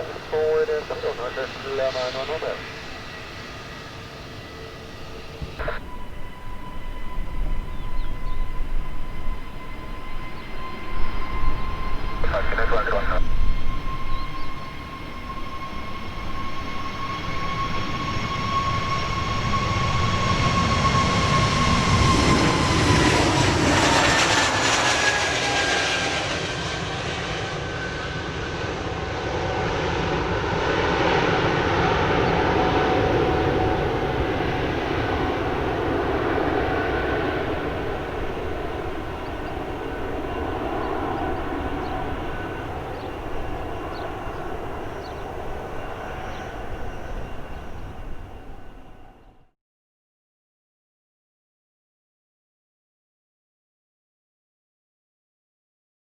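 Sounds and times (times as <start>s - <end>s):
jet engine fan whine: 0.0s - 49.4s
jet engine rumble: 0.0s - 49.4s.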